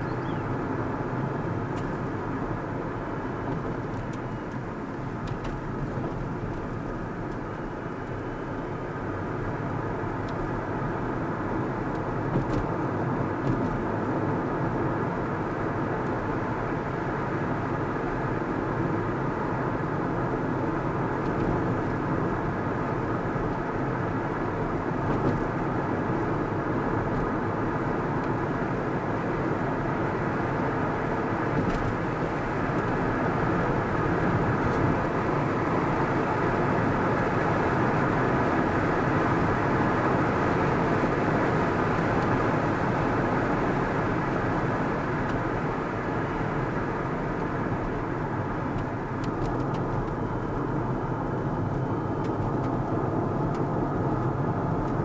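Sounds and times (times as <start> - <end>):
car engine and tyre hum: 0.0 - 55.0.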